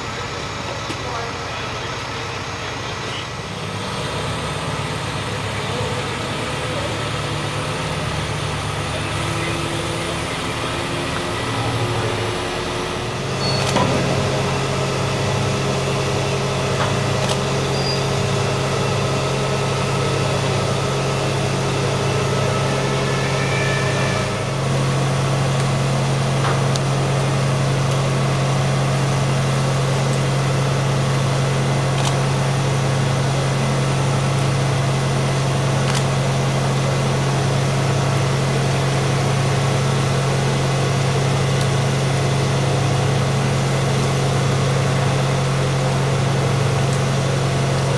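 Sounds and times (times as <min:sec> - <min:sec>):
crane diesel engine running: 0:00.0 - 0:47.9.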